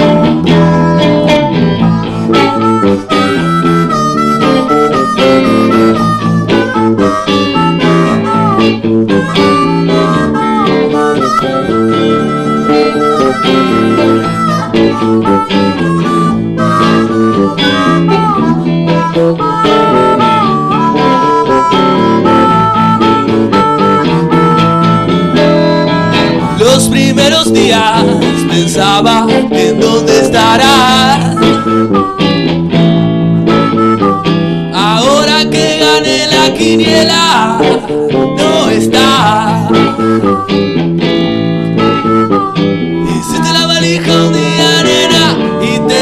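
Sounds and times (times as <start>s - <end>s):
blues harmonica solo: 0.0s - 46.0s
guitar and bass accompaniment: 0.0s - 46.0s.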